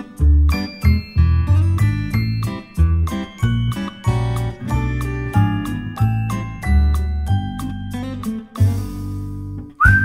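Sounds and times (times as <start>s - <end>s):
melody over bass line: 0.6s - 9.6s.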